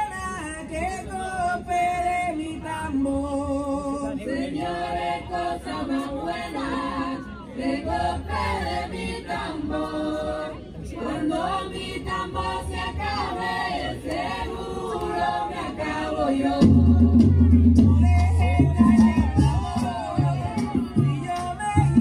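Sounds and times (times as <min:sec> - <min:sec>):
choir singing in harmony: 0:03.6 - 0:22.0.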